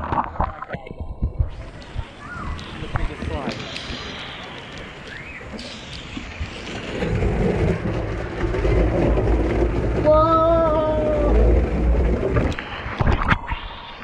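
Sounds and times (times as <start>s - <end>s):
rushing water in slide tube: 0.0s - 14.0s.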